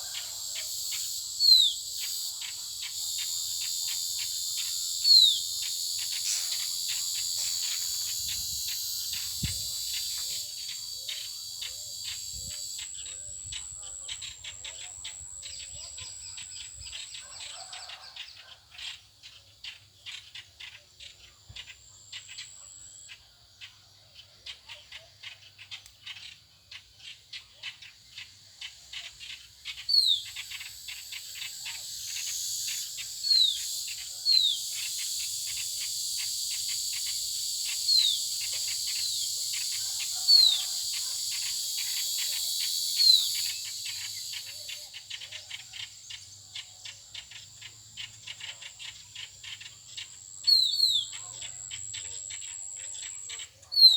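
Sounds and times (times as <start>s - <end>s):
high insect buzz: 0.0s - 18.0s, 27.9s - 53.9s
small birds chirping: 0.0s - 53.9s.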